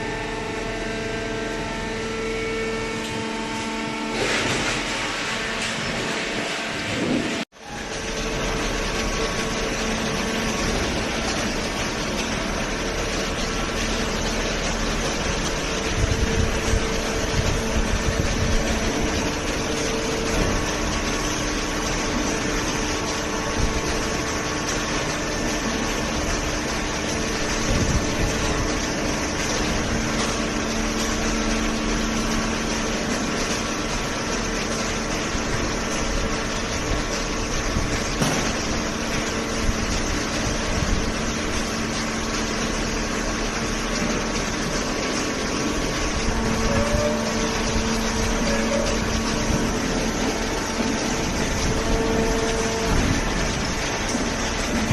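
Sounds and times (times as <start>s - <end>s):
hydraulic baler running: 0.0s - 54.9s.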